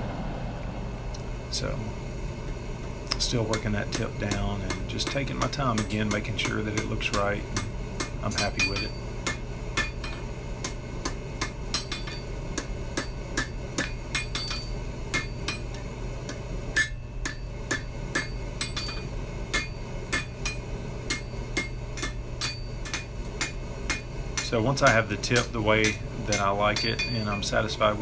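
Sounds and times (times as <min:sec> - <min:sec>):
low hum: 0:00.0 - 0:28.0
hammer ringing on anvil: 0:03.5 - 0:15.8, 0:16.7 - 0:28.0.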